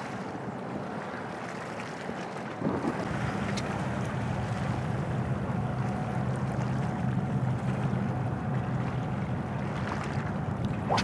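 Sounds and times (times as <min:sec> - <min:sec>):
boat engine droning: 0:00.0 - 0:11.0
light wind: 0:00.0 - 0:11.0
water noise: 0:00.0 - 0:11.0.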